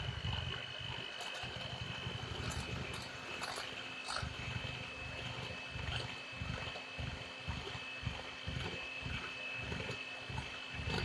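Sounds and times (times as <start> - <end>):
electric hand mixer whisking: 0.0 - 11.0.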